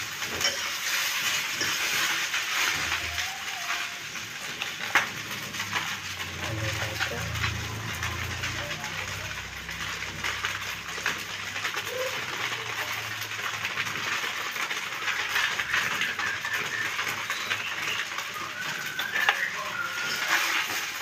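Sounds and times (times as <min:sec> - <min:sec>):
noodles sizzling in oil: 0:00.0 - 0:21.0.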